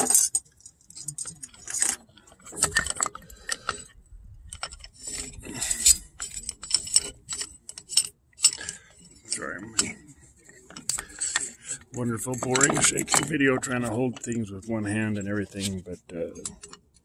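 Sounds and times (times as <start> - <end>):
metal clinking and rattling: 0.0 - 17.0.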